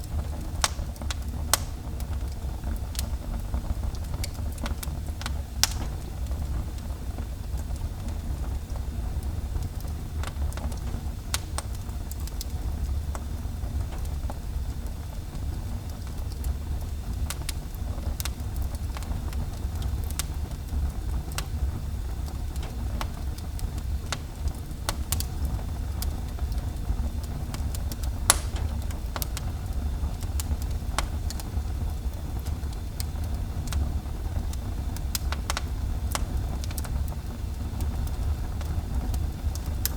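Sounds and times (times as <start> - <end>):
fire crackling and popping: 0.0 - 39.9
wood fire rumbling: 0.0 - 39.9.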